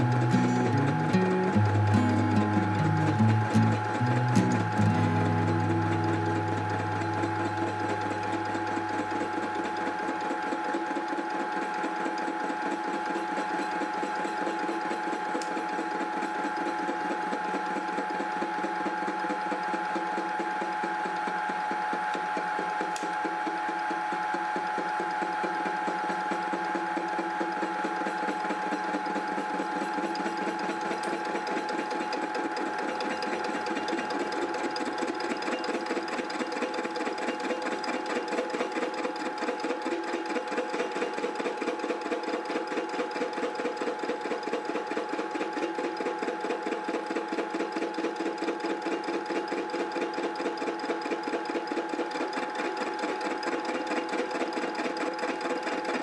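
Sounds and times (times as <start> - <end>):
milling machine cutting iron: 0.0 - 56.0.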